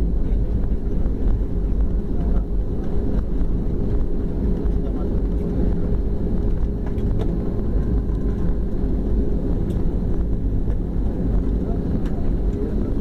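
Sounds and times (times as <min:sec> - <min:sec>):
jet engines and wheels rumbling: 0:00.0 - 0:13.0.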